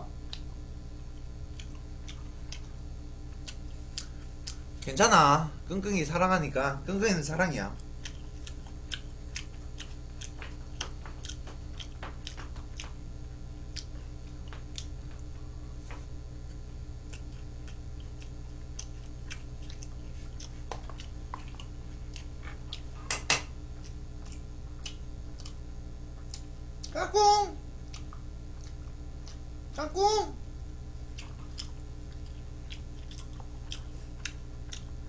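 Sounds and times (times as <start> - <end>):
man chewing food: 0.0 - 4.9, 7.7 - 27.0, 27.6 - 29.8, 30.5 - 35.0
steady low hum: 0.0 - 35.0.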